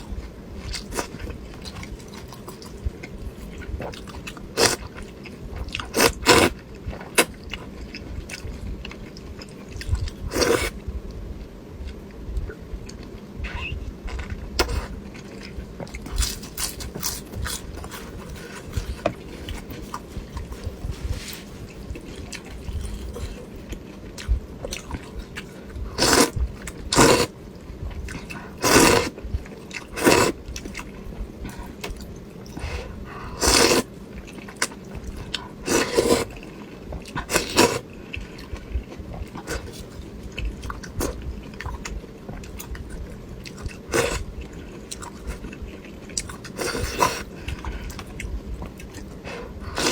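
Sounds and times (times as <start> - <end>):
soft chewing: 0.0 - 49.9.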